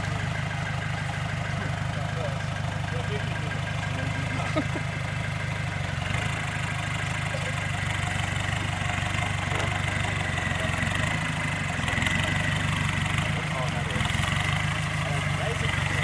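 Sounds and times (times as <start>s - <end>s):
off-road vehicle engine rumbling: 0.0s - 16.0s.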